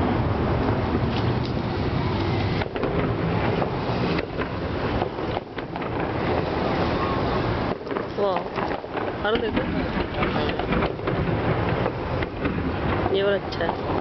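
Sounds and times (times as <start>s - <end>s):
fireworks rumbling: 0.0s - 14.0s
sharp firework bangs: 2.3s - 14.0s.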